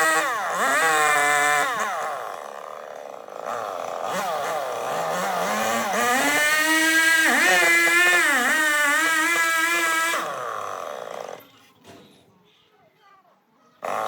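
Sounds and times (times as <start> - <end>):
chainsaw revving: 0.0 - 11.8, 13.8 - 14.0.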